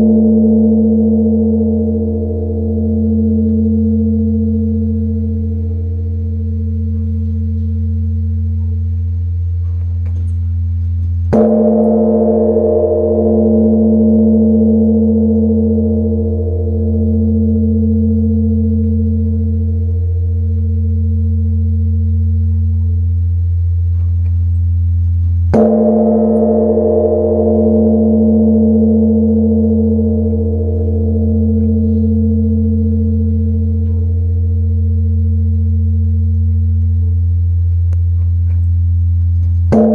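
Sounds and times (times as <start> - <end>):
wooden log striking bell: 0.0 - 8.9, 9.6 - 23.0, 25.5 - 36.7, 39.4 - 39.9
deep bell ringing hum: 0.0 - 39.9.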